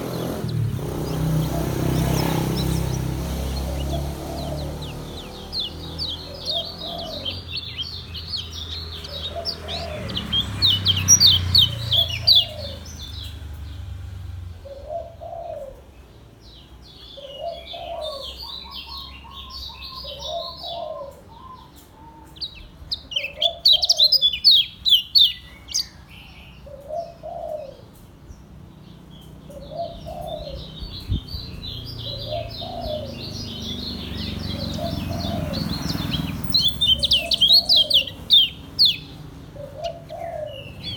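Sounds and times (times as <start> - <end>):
dove cooing: 0.0 - 13.3, 14.6 - 16.1, 17.2 - 24.7, 26.6 - 28.2, 29.4 - 40.9
bird twittering song: 0.0 - 40.9.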